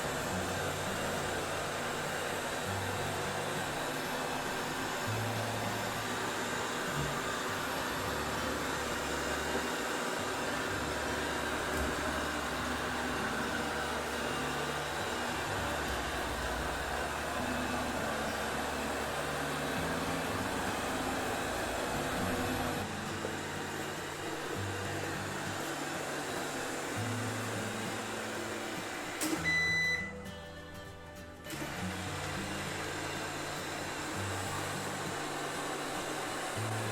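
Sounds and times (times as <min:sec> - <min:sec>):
robot vacuum cleaner running: 0:00.0 - 0:30.3, 0:31.5 - 0:36.9.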